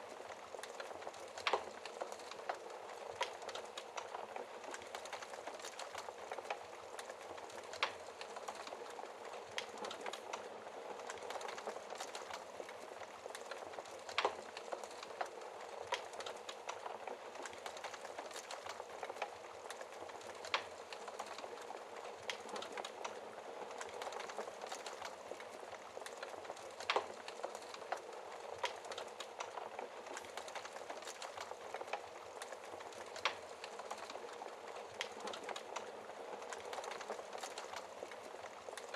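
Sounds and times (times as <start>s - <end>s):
logs crackling in a fireplace: 0.0s - 38.9s.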